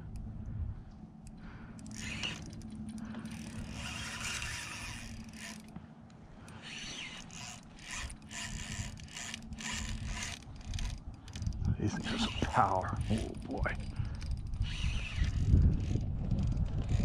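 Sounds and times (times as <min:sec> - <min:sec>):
fishing reel clicking and whirring: 0:01.2 - 0:05.7, 0:06.4 - 0:17.0.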